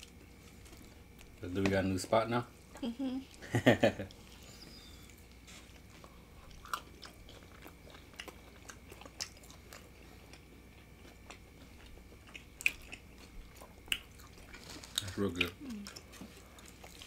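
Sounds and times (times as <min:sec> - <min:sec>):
people chewing: 0:00.0 - 0:01.8, 0:03.3 - 0:17.0.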